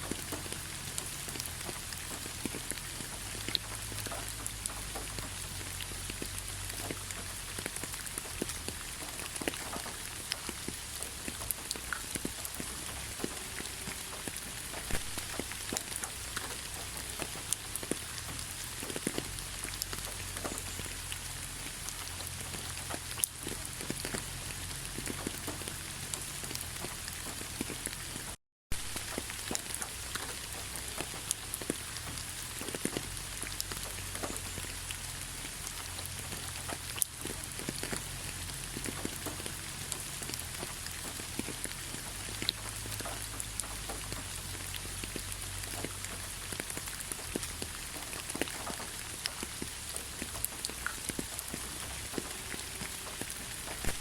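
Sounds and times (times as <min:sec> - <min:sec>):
rain drops ticking on a surface: 0:00.0 - 0:54.0.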